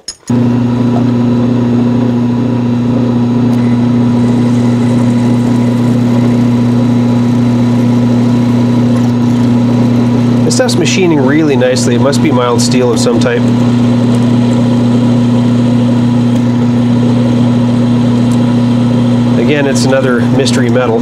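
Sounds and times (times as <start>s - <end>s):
drill press humming: 0.0s - 21.0s
drill boring through steel: 0.3s - 21.0s.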